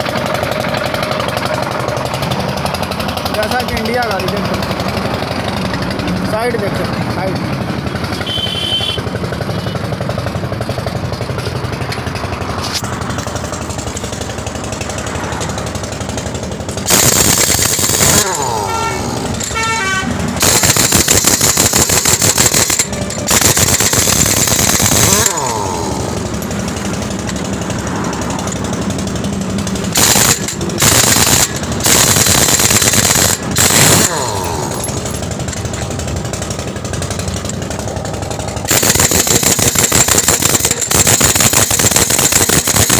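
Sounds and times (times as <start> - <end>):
diesel truck engine idling: 0.0 - 20.5, 22.6 - 38.8
pneumatic impact wrench rattling: 7.6 - 42.9.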